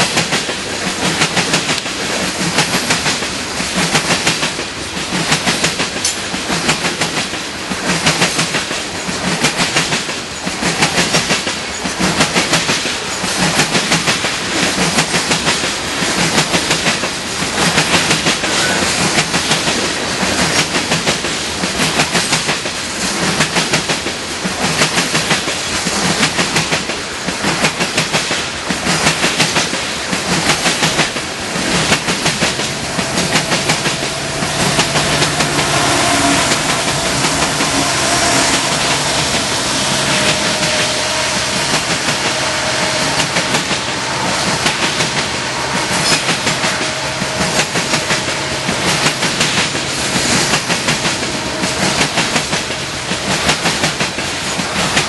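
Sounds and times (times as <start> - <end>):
diesel locomotive engine humming: 0.0 - 55.0
train wheels clickety-clack: 0.0 - 55.0.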